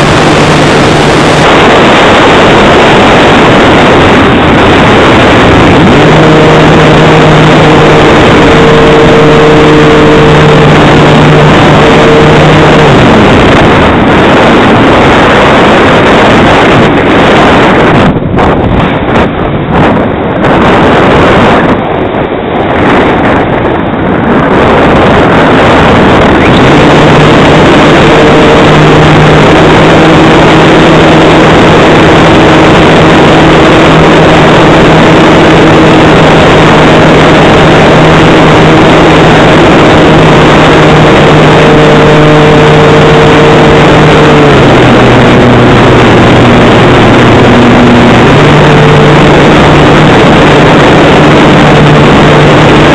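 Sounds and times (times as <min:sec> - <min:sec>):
steady hum: 0:00.0 - 0:52.9
wind rushing over microphone: 0:00.0 - 0:52.9.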